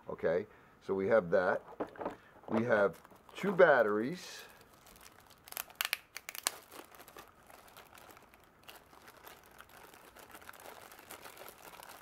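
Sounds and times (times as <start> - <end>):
plastic bag crinkling: 1.9 - 12.0.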